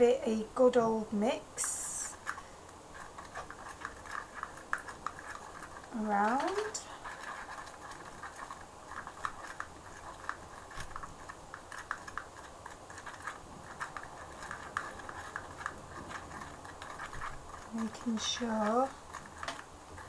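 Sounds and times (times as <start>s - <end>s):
stick stirring in plastic pot: 0.0s - 20.0s.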